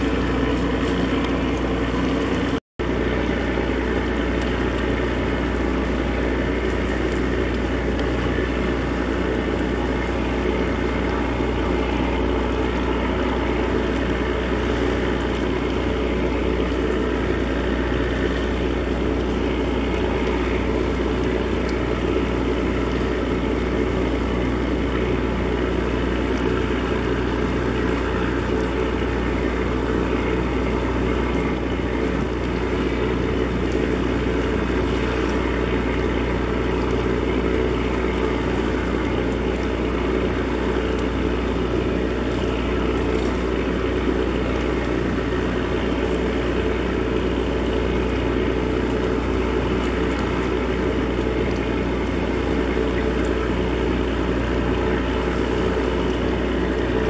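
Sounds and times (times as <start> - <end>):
ship diesel engines humming: 0.0 - 57.0.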